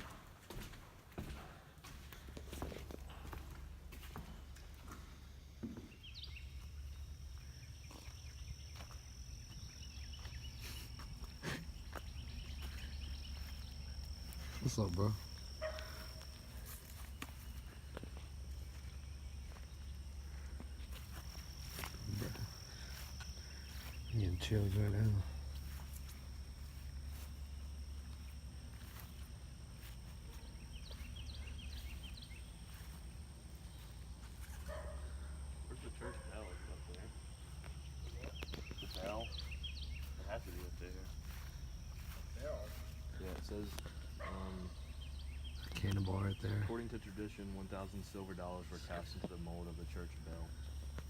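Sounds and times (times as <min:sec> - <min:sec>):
faint chirps: 0:04.1 - 0:51.0
high-pitched insect drone: 0:04.9 - 0:34.6, 0:35.3 - 0:51.0.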